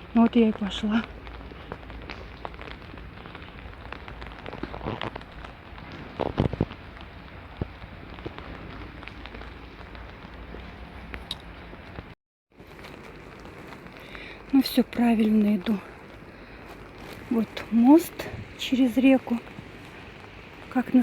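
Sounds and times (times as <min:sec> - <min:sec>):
raindrops ticking close: 0:00.0 - 0:21.0.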